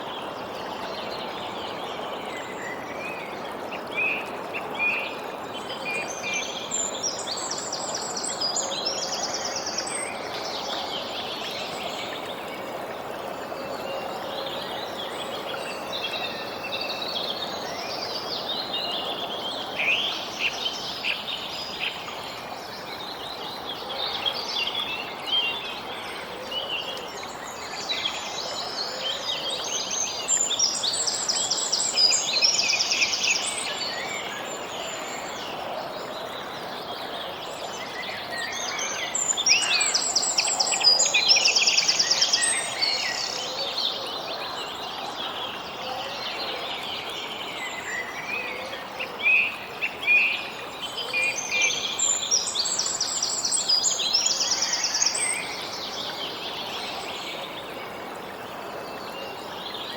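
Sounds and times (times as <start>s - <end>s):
songbirds chirping and trilling: 0.0s - 59.9s
steady background hiss: 0.0s - 59.9s.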